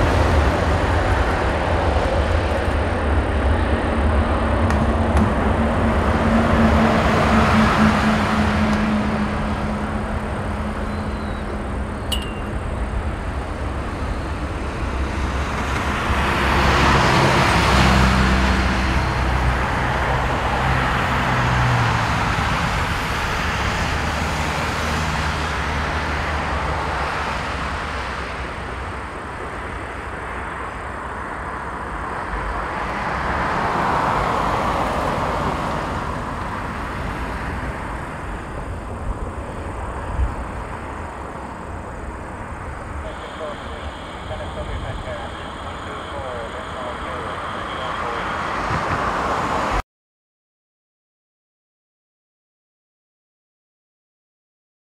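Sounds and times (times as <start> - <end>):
jet engine roar: 0.0 - 49.8.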